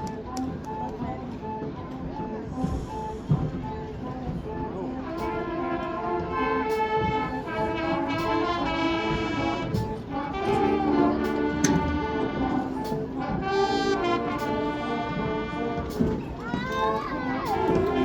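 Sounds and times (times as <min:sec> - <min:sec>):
brass sustaining chords: 0:00.0 - 0:16.4, 0:17.1 - 0:18.0.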